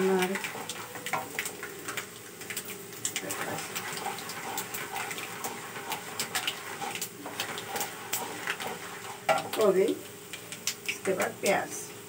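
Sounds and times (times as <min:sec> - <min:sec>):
wooden spatula stirring: 0:00.0 - 0:11.3
sizzling with crackles and pops: 0:00.0 - 0:12.0.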